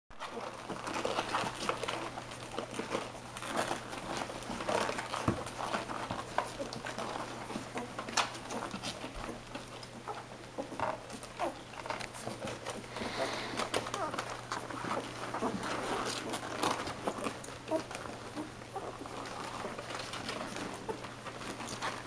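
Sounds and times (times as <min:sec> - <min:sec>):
puppies suckling: 0:00.2 - 0:22.0.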